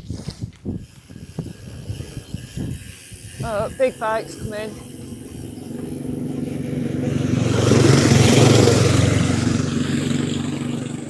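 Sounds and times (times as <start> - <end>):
motorcycle passing: 0.6 - 11.0.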